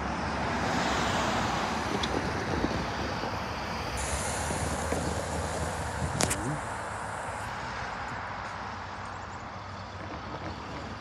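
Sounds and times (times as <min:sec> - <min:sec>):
cars passing over road: 0:00.0 - 0:11.0.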